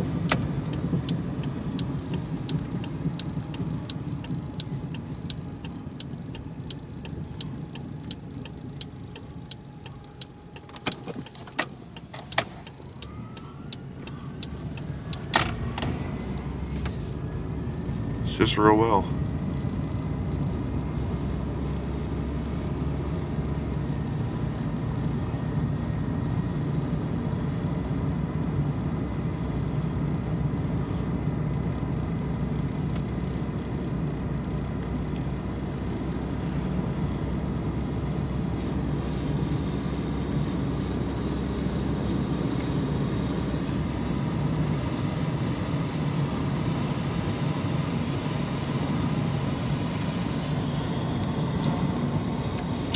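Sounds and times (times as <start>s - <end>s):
car engine running: 0.0s - 52.9s
road and tyre noise: 0.0s - 52.9s.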